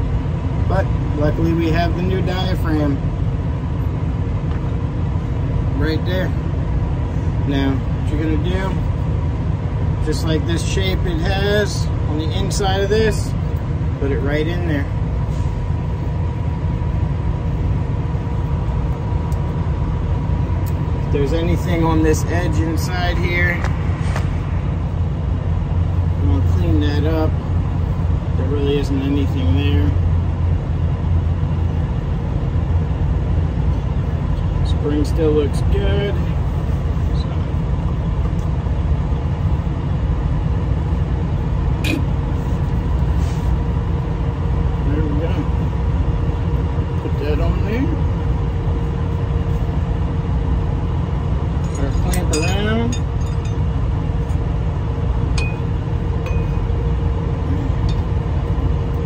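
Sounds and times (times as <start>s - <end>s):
engine rumbling: 0.0s - 59.0s
faint steady whine: 0.0s - 59.0s.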